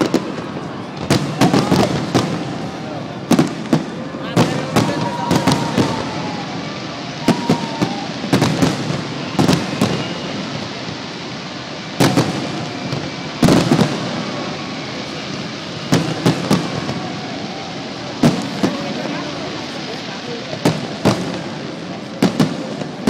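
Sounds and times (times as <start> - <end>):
faint firework whistles: 0.0 - 23.0
fireworks bursting with bangs: 0.0 - 23.0
fireworks crackling hiss: 0.0 - 23.0.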